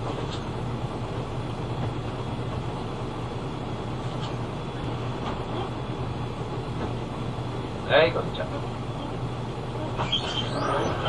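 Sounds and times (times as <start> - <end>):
bus cabin noise: 0.0 - 11.0
bus engine humming: 0.0 - 11.0.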